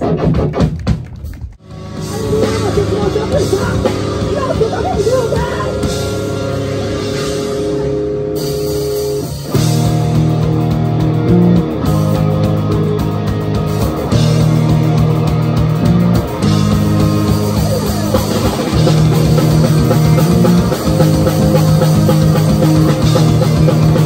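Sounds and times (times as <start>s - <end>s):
drum kit: 0.0s - 24.0s
bass guitar chords: 1.6s - 24.0s
electric guitar chords: 1.6s - 24.0s.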